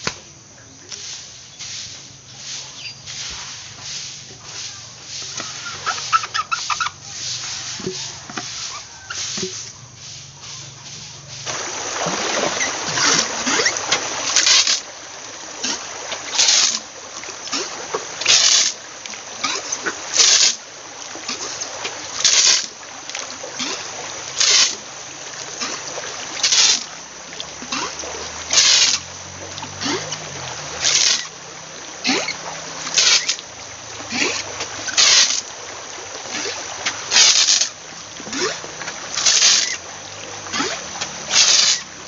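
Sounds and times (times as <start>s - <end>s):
stream rushing: 0.0s - 42.0s
gurgling water refill: 2.2s - 42.0s
squirt gun spurting water: 3.0s - 42.0s.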